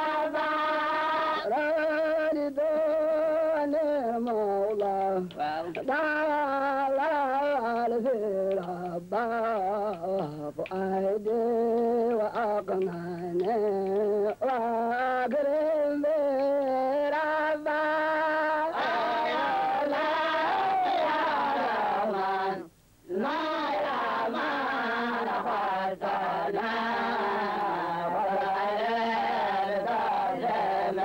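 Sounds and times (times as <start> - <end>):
group of voices singing: 0.0 - 31.0
person singing a chant: 0.0 - 31.0.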